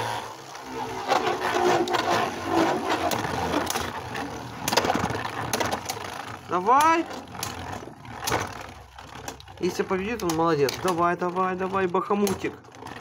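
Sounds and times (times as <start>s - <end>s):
spinning tops whirring: 0.0s - 13.0s.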